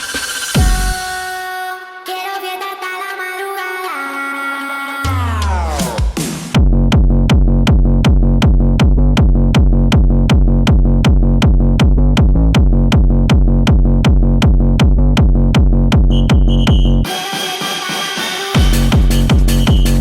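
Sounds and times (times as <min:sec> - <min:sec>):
fast hard electronic dance music: 0:00.0 - 0:01.4, 0:05.2 - 0:20.0.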